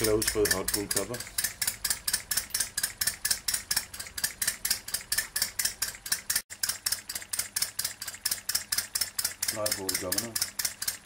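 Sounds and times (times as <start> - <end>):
model engine ticking: 0.0 - 11.0.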